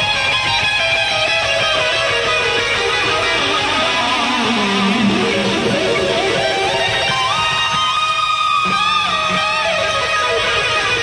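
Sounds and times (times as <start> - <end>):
electric guitar lead: 0.0 - 11.0
live rock band: 0.0 - 11.0.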